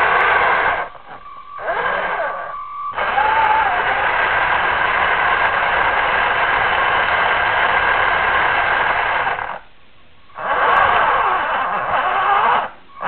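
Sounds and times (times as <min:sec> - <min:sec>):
small electric motor whirring: 0:00.0 - 0:09.6, 0:10.4 - 0:12.8.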